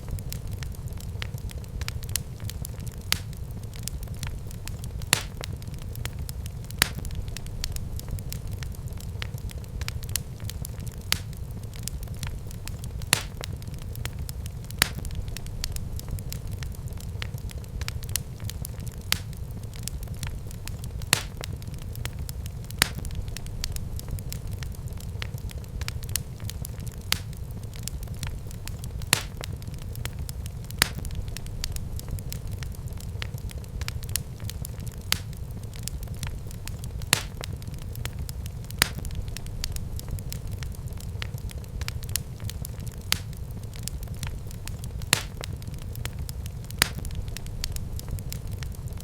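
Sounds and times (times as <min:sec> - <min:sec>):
fire crackling in a fireplace: 0:00.0 - 0:49.0
loud fire pops: 0:00.0 - 0:49.0
low rumble of fire: 0:00.0 - 0:49.0.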